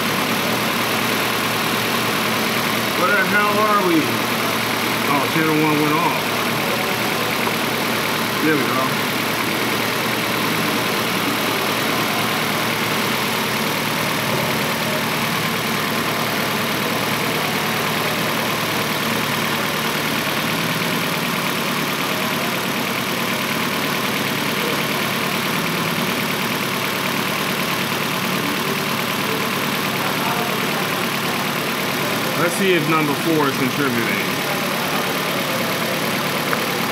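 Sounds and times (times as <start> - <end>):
car engine idling with misfire: 0.0 - 36.9.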